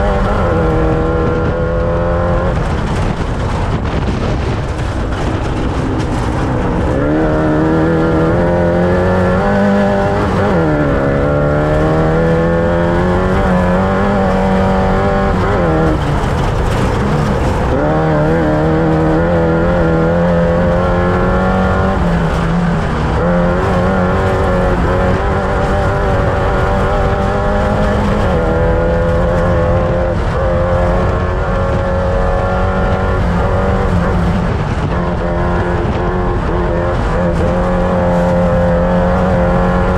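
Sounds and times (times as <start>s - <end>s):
race vehicle engine revving: 0.0s - 39.9s
wind and running gear noise: 0.0s - 39.9s.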